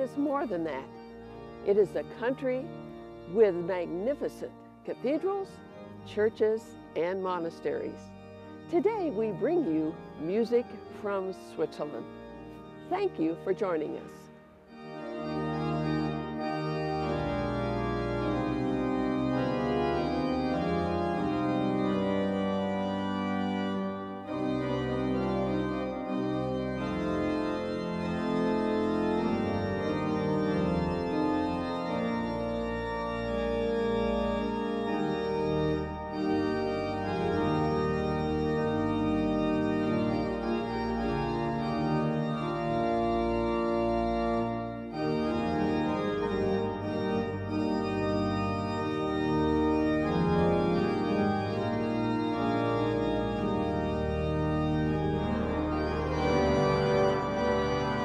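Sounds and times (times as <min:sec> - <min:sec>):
pipe organ playing chords: 0:00.0 - 0:58.0.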